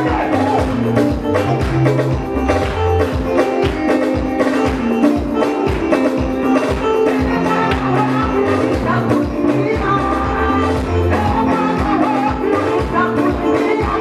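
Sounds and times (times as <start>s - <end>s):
live gospel band music: 0.0s - 14.0s.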